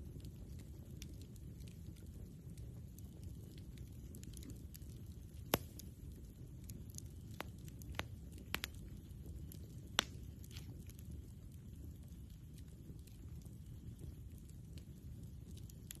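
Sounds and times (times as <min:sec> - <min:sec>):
campfire crackling and popping: 0:00.0 - 0:16.0
low steady rumble: 0:00.0 - 0:16.0.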